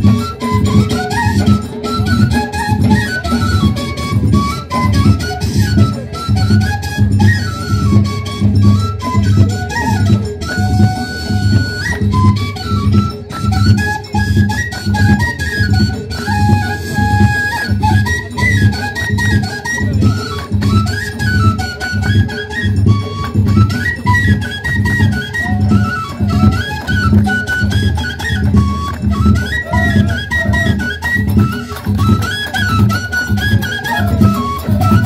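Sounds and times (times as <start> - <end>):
high stepping folk melody: 0.0 - 35.0.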